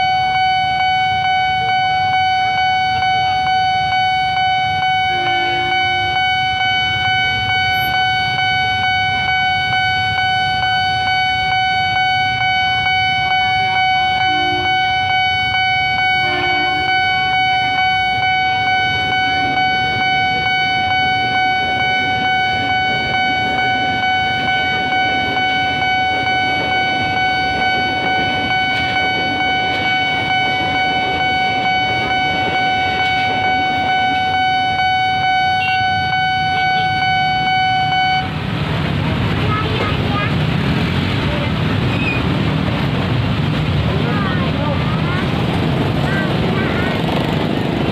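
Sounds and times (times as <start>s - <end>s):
pulsing electronic crossing alarm: 0.0s - 47.9s
train rumbling: 0.0s - 47.9s.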